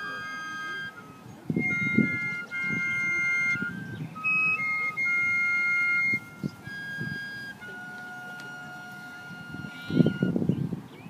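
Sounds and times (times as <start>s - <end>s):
fifes playing shrill notes: 0.0s - 10.4s.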